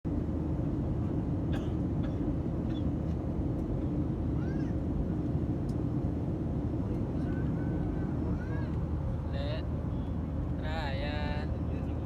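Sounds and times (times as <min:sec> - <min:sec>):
airliner cabin drone: 0:00.1 - 0:12.0.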